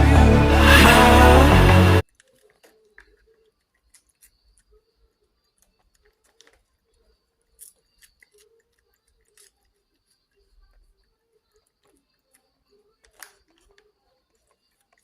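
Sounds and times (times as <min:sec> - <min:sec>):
small clicks and ticks: 0:02.0 - 0:15.0.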